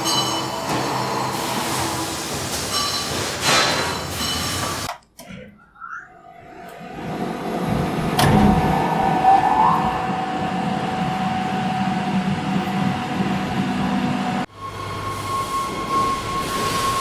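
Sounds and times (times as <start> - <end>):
factory machine humming: 0.0 - 5.0, 6.6 - 17.0.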